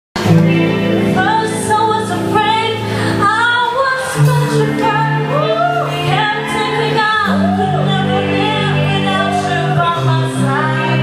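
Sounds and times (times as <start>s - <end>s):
band playing: 0.2s - 11.0s
woman singing with vibrato: 1.0s - 11.0s.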